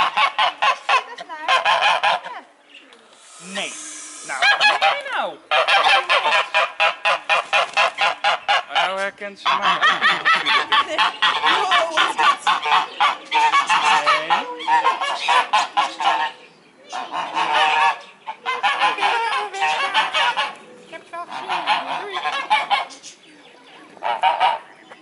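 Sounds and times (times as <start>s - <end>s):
geese honking: 0.0s - 2.5s, 3.1s - 23.2s, 24.0s - 24.8s.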